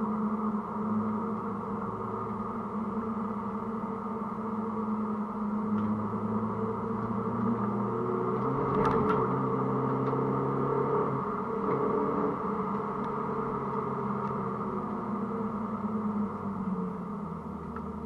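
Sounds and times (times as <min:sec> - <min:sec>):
car engine drone from inside: 0:00.0 - 0:18.0.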